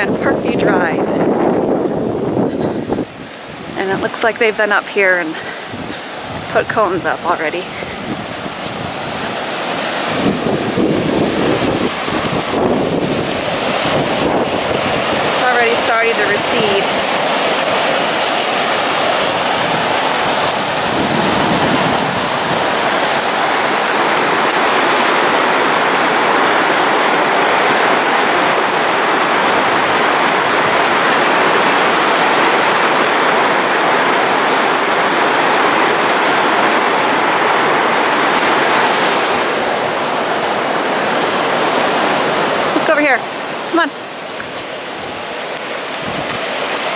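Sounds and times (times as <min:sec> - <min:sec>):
floodwater rushing: 0:00.0 - 0:46.9.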